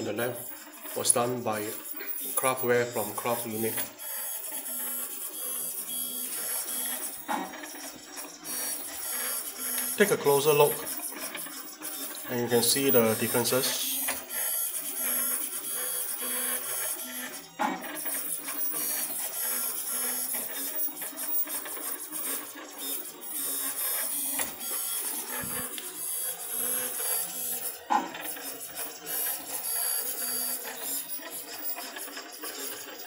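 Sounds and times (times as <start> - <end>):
sharp printer bed noise: 0.0 - 33.0
stepper motors whirring and buzzing: 0.0 - 33.0.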